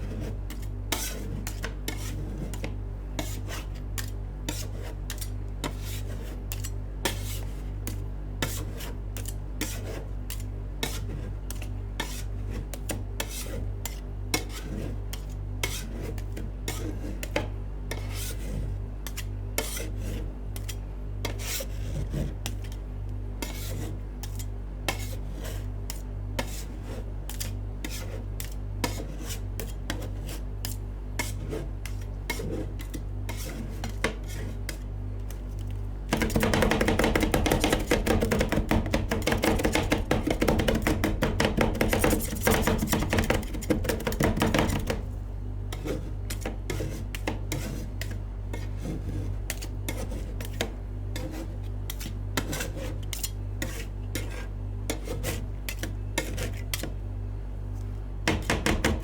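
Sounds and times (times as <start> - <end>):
metal spatulas tapping and scraping: 0.5 - 22.8, 23.4 - 45.1, 45.7 - 57.0, 58.3 - 59.0.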